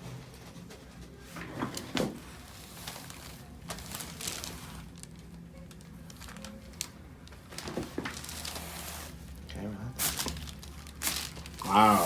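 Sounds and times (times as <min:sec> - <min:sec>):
soft rustling and handling: 0:00.0 - 0:12.0.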